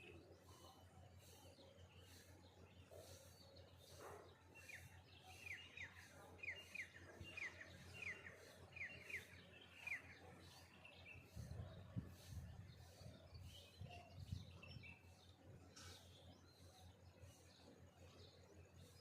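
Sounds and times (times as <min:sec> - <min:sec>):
bird chirping faintly: 0:00.0 - 0:19.0.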